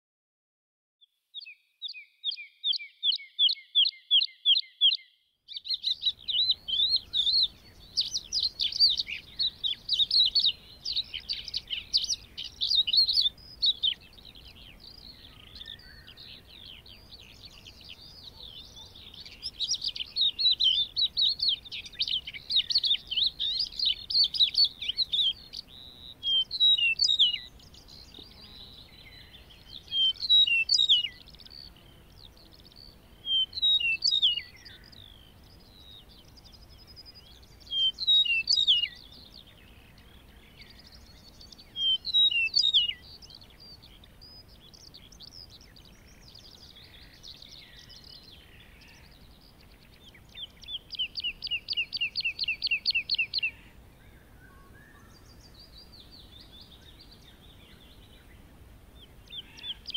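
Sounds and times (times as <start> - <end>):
larks singing: 1.4 - 59.9.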